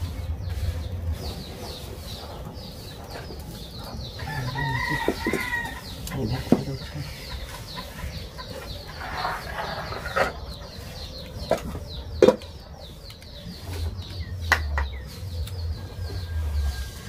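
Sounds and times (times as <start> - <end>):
chickens: 0.0 - 17.0
small birds chirping: 0.0 - 17.0.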